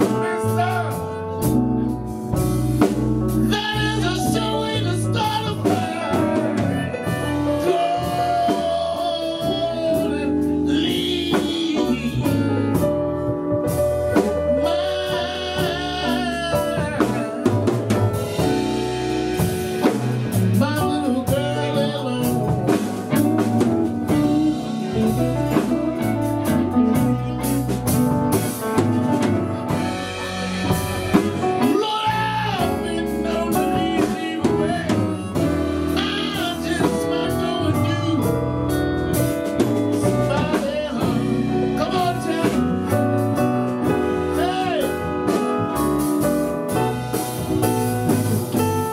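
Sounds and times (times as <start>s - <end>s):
live blues band playing: 0.0s - 48.9s.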